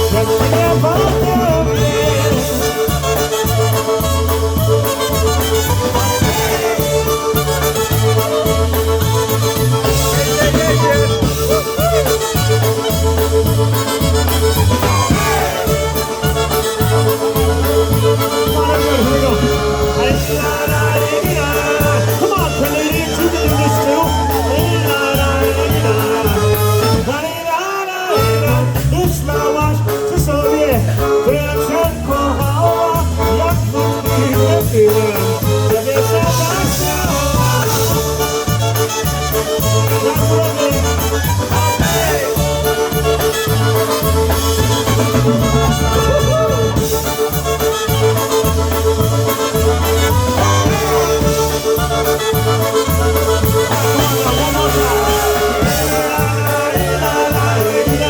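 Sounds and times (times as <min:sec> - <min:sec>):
polka band playing: 0:00.0 - 0:58.0.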